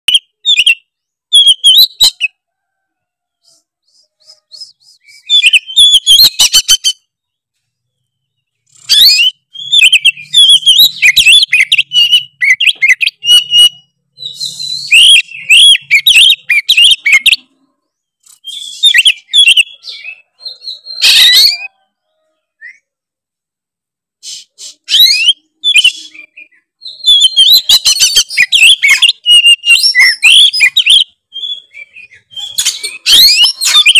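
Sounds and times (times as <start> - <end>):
bird singing whistles and chirps: 0.0 - 2.3, 3.8 - 7.1, 7.9 - 21.8, 24.2 - 33.9.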